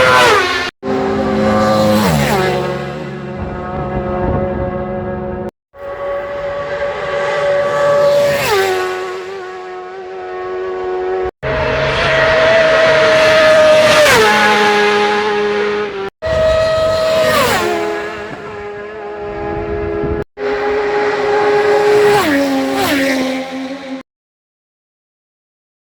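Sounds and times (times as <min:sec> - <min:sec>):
racing motorcycles passing by: 0:00.0 - 0:24.0.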